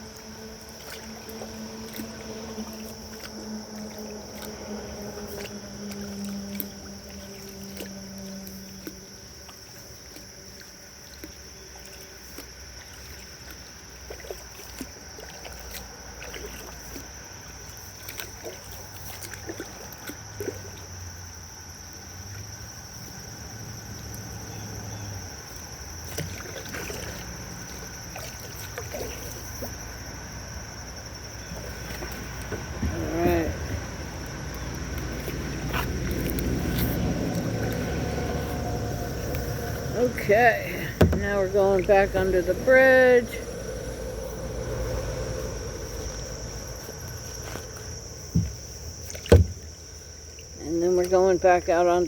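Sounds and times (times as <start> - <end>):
kayak paddle splashing: 0.0 - 52.0.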